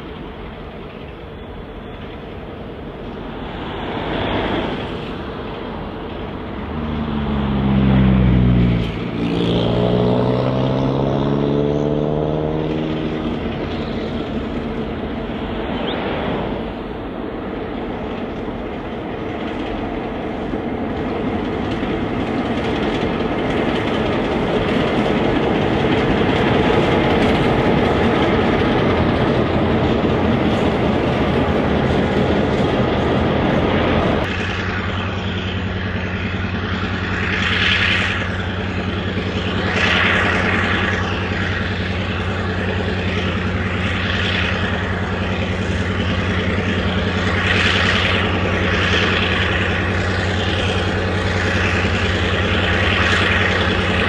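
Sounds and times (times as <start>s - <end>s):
diesel locomotive engine drone: 0.0s - 54.0s
wheels rumbling on rails: 0.0s - 54.0s.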